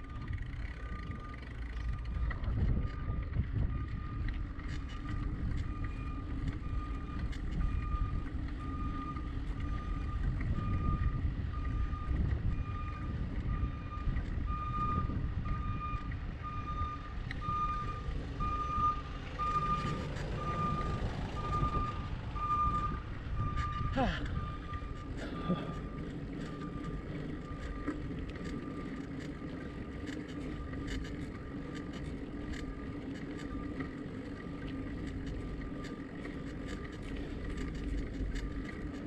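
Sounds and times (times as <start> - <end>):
reversing alarm beeping: 0.0 - 39.0
wind rumbling on microphone: 0.0 - 39.0.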